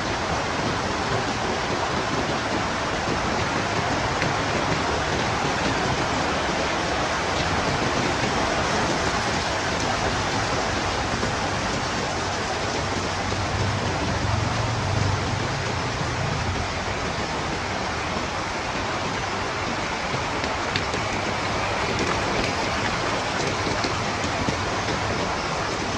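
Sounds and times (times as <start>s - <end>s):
heavy rain falling: 0.0s - 25.9s
low wind rumble: 0.0s - 25.9s.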